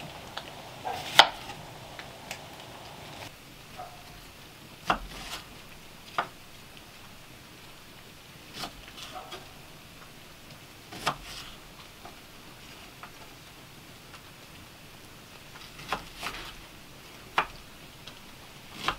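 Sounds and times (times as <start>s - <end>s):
low steady background noise: 0.0s - 18.9s.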